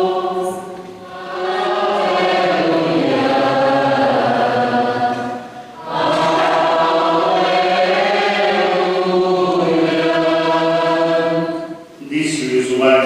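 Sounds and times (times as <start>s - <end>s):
choir singing a chant: 0.0s - 13.0s.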